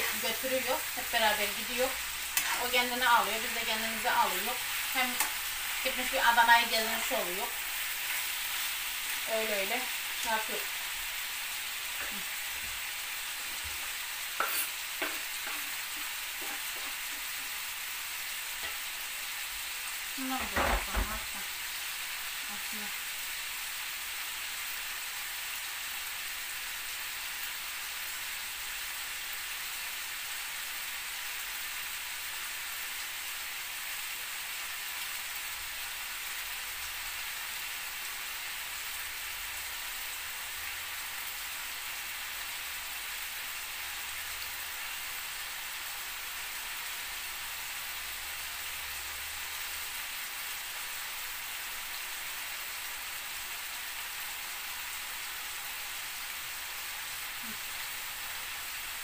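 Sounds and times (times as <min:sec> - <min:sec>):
food sizzling in oil: 0:00.0 - 0:59.0.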